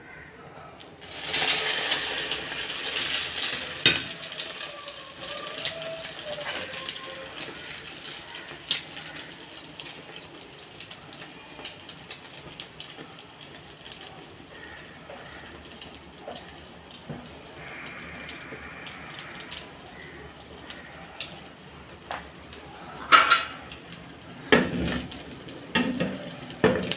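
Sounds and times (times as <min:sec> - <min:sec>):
bread frying in oil: 0:00.8 - 0:26.9
oil popping: 0:01.0 - 0:26.9.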